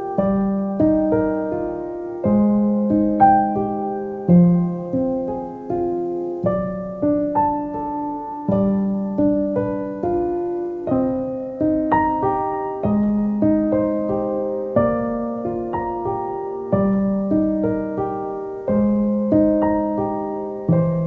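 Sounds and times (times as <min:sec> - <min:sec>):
gentle piano piece: 0:00.0 - 0:21.0.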